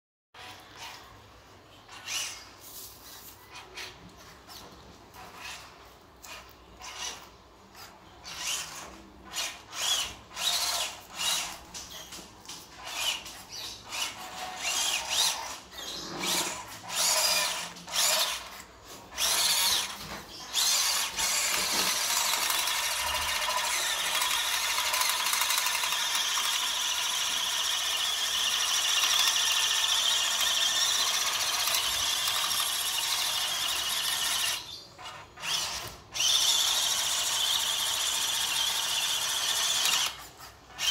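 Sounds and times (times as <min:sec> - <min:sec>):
electric motor and gearbox whining: 0:01.9 - 0:02.5, 0:03.5 - 0:40.9.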